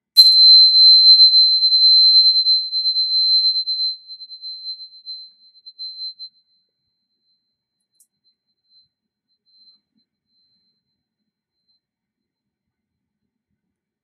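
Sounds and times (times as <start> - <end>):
tuning fork ringing: 0.2 - 12.0.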